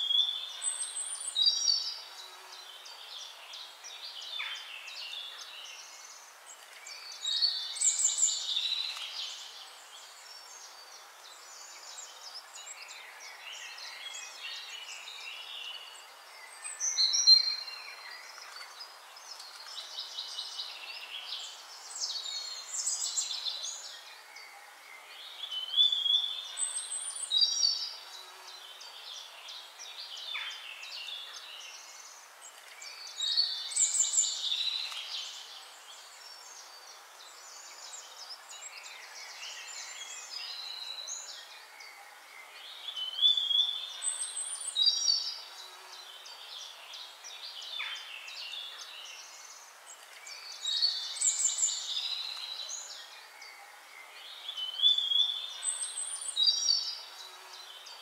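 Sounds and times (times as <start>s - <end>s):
birds chirping and warbling: 0.0s - 58.0s
steady hiss: 0.0s - 58.0s.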